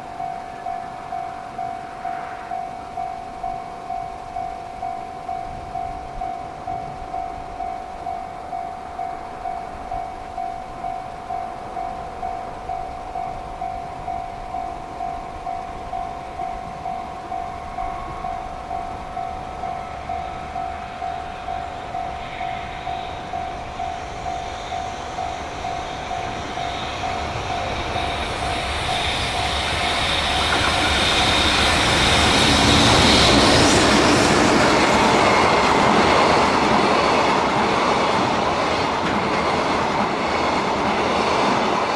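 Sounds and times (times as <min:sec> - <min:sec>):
level crossing bell ringing: 0:00.0 - 0:37.3
freight train passing: 0:00.0 - 0:41.9.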